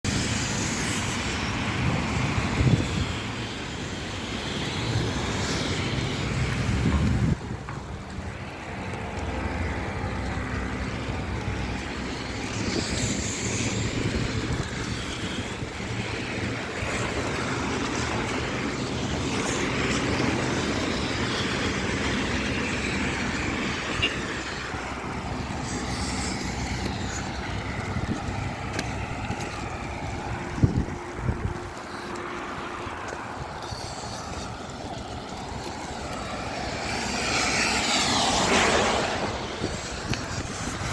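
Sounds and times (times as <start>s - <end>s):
wind on microphone: 0.1s - 40.9s.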